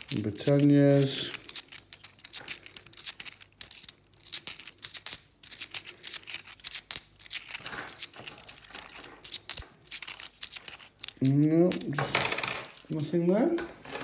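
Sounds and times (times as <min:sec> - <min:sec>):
coins clicking together: 0:00.0 - 0:13.5.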